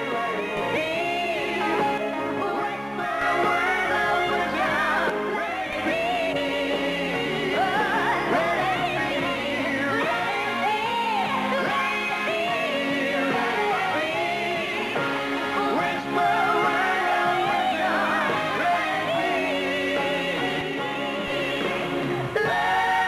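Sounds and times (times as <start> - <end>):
band playing pop music: 0.0 - 23.0
singers with long vocal lines: 0.0 - 23.0.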